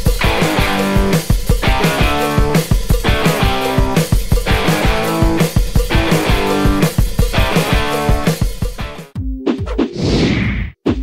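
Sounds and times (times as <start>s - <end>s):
guitar rock music: 0.0s - 9.2s
electronic music: 0.0s - 10.0s.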